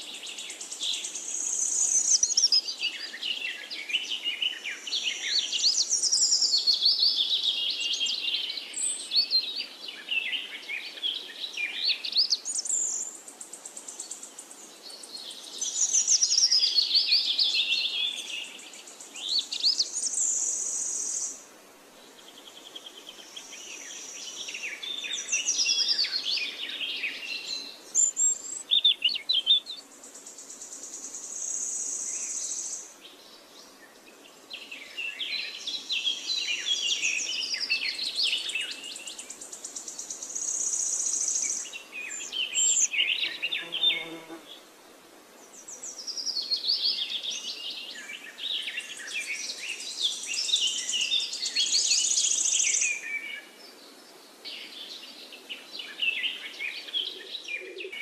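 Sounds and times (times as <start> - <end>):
birds chirping and twittering: 0.0 - 21.4, 22.0 - 44.7, 45.4 - 58.0.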